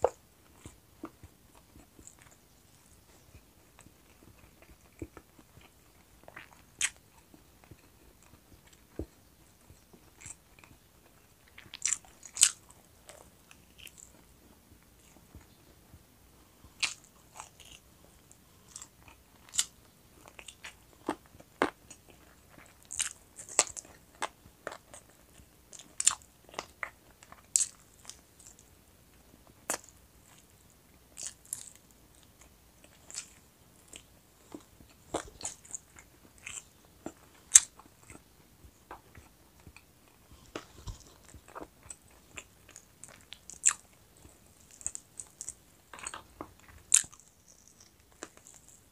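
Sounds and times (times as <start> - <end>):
crunching and chewing: 0.0 - 48.9.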